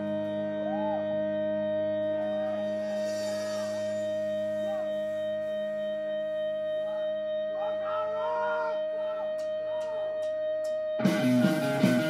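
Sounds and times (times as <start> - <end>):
bending electric guitar notes: 0.0 - 6.2, 7.0 - 12.0
rock band drone note: 0.0 - 10.2, 10.9 - 12.0.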